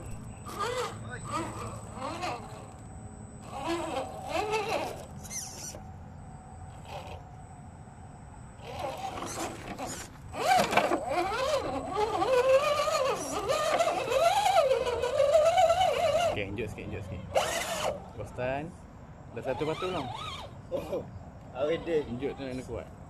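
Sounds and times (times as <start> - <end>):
electric motor and gears whining: 0.0 - 18.7, 19.3 - 22.9.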